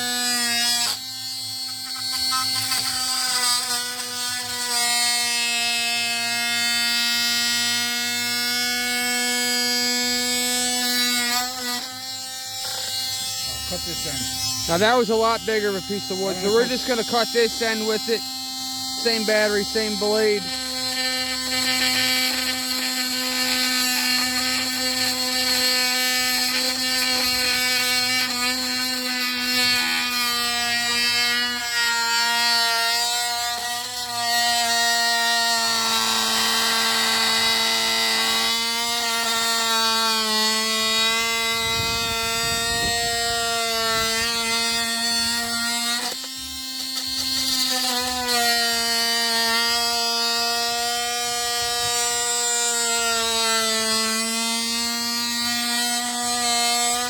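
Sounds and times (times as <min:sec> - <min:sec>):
multitool saw cutting wood: 0:00.0 - 0:57.0.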